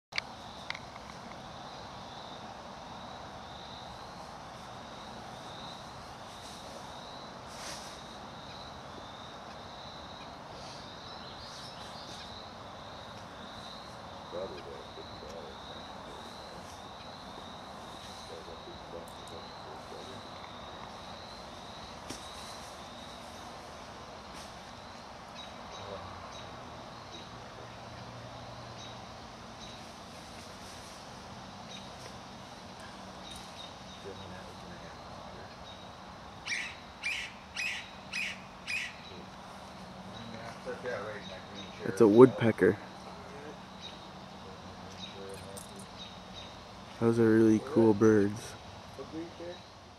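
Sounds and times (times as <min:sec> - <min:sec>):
background hiss: 0:00.2 - 0:49.9
insects trilling: 0:00.2 - 0:49.9.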